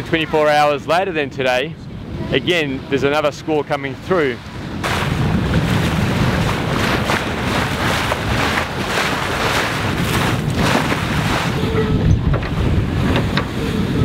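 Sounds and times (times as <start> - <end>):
water rushing along hull: 0.0 - 14.0
wind buffeting microphone: 0.0 - 14.0.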